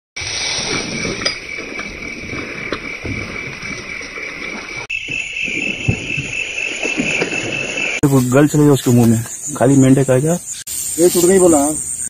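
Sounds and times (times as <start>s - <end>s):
insects chirring: 0.2s - 12.0s.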